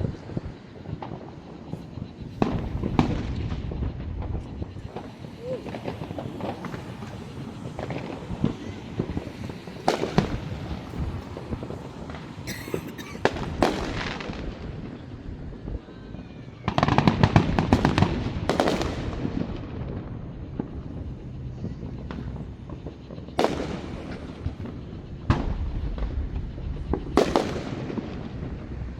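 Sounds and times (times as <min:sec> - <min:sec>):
fireworks bangs with ringing: 0:00.0 - 0:28.9
rapid crackling firework bangs: 0:00.0 - 0:28.9.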